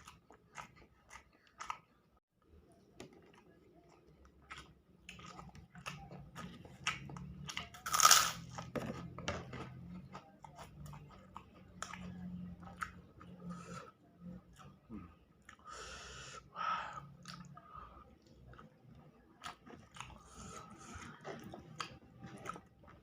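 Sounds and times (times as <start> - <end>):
close-miked chewing: 0.0 - 7.8, 8.9 - 23.0.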